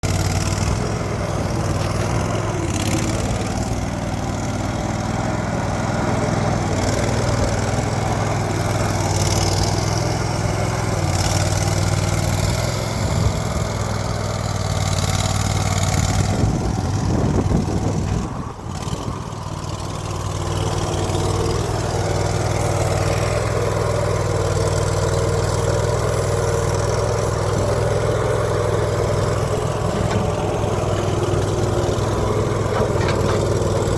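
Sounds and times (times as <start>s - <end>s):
skid steer engine hum: 0.0s - 33.9s.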